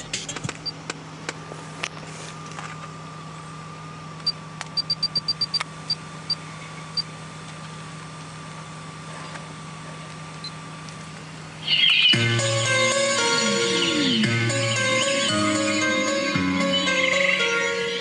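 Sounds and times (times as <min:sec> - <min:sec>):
vehicle idling hum: 0:00.0 - 0:18.0.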